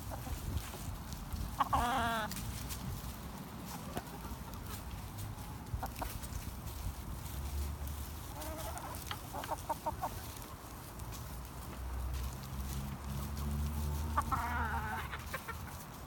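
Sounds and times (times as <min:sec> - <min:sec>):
hens clucking: 0:00.0 - 0:11.8, 0:12.6 - 0:16.0.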